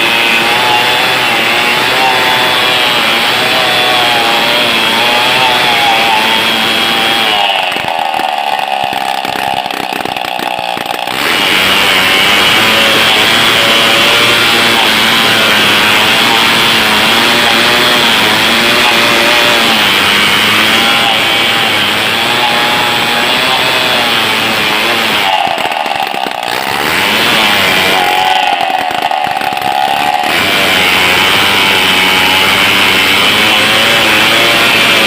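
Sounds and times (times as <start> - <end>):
chainsaw cutting log: 0.0 - 35.0.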